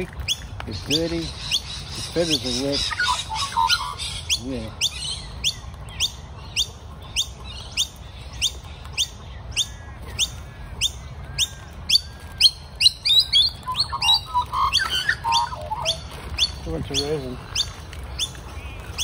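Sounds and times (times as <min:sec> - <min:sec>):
young magpie chirping: 0:01.2 - 0:19.0.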